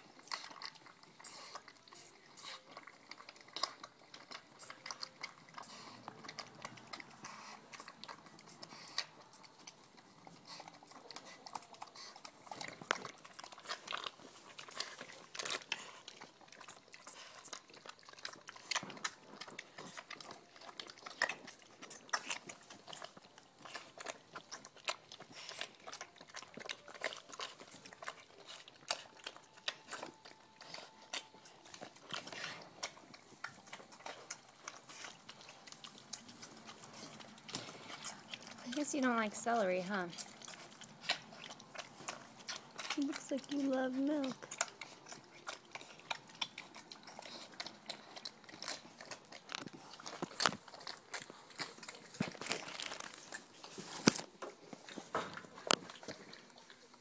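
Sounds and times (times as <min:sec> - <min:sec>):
pigs chewing and crunching: 0:00.0 - 0:57.0.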